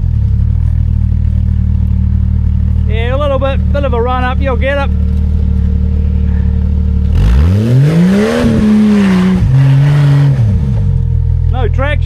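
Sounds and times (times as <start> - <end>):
car engine revving: 0.0 - 11.6
spinning tyres hissing: 0.4 - 11.0.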